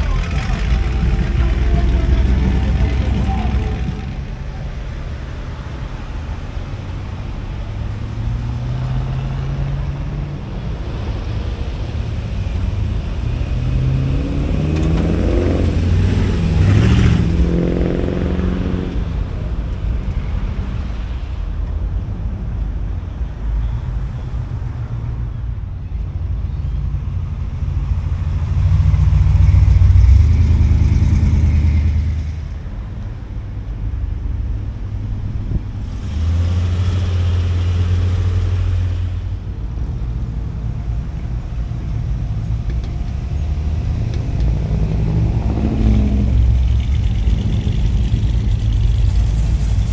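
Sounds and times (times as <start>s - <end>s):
cars driving past: 0.0s - 49.9s.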